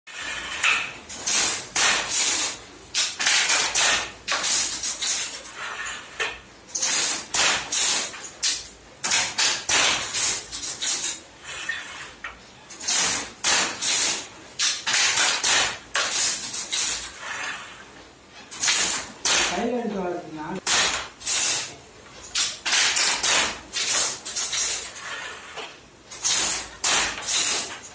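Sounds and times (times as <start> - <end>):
handloom clattering and knocking: 0.1 - 27.9.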